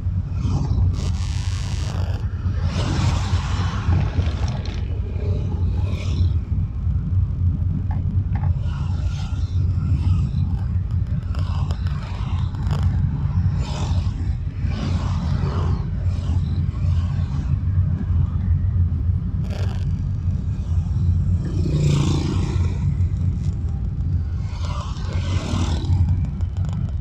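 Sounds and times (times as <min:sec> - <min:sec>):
car engine and tyres rumbling: 0:00.0 - 0:27.0
traffic passing: 0:00.0 - 0:27.0.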